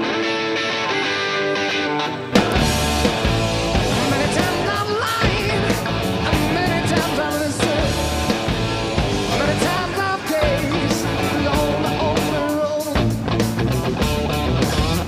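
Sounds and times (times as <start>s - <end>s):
electric guitar: 0.0s - 15.0s
steady drum beat: 2.4s - 15.0s.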